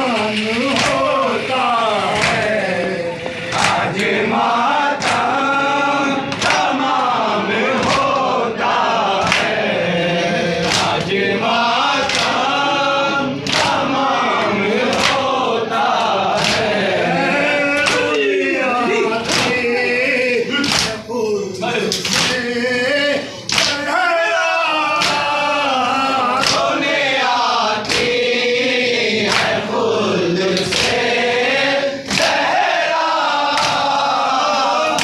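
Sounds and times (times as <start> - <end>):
men chanting in unison: 0.0 - 35.0
rhythmic chest-beating slaps: 0.0 - 35.0.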